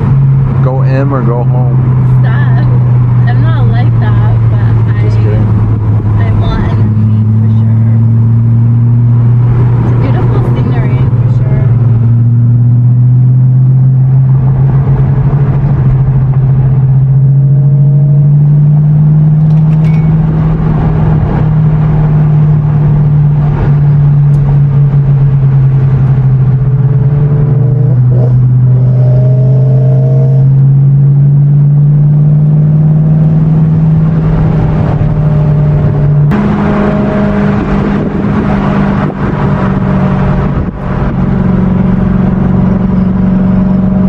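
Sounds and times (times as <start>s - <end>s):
car engine droning: 0.0s - 44.0s
road noise: 0.0s - 44.0s.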